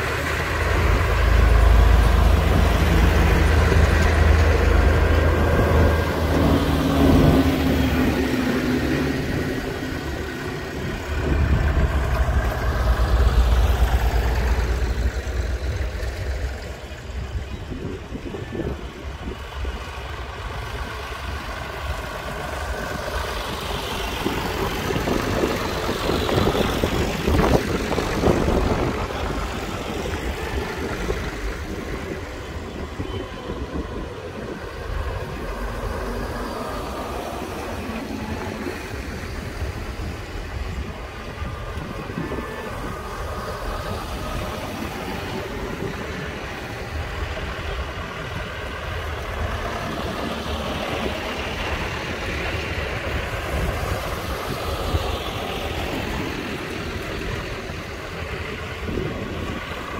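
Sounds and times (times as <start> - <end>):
tractor diesel engines passing: 0.0 - 59.9.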